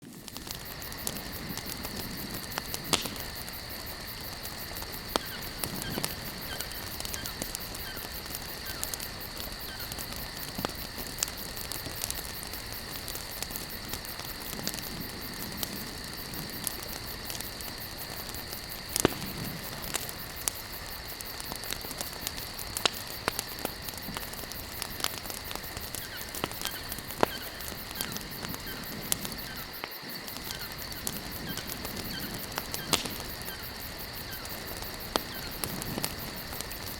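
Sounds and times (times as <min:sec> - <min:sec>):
campfire crackling and popping: 0:00.0 - 0:36.9.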